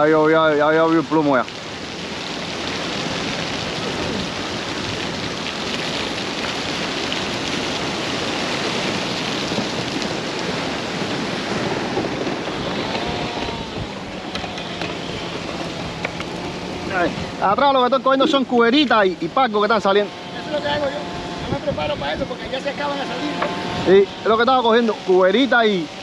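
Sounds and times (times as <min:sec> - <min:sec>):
ocean surf rushing: 0:00.0 - 0:26.0.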